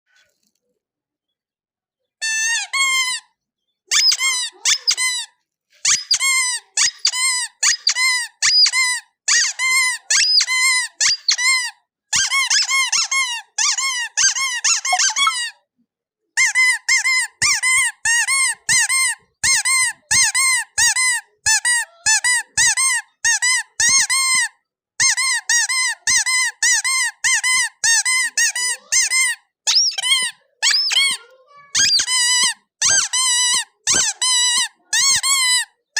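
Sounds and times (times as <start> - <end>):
rubber squeeze toy squeaking: 2.2 - 15.6, 16.4 - 35.9.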